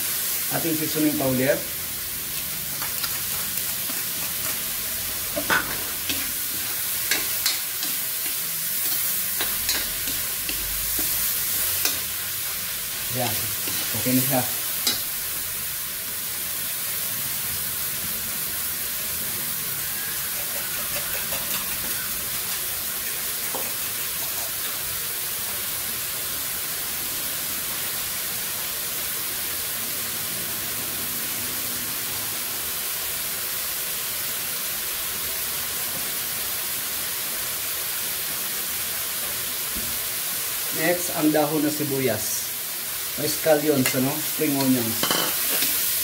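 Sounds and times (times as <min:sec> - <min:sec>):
vegetables sizzling in a wok: 0:00.0 - 0:46.0.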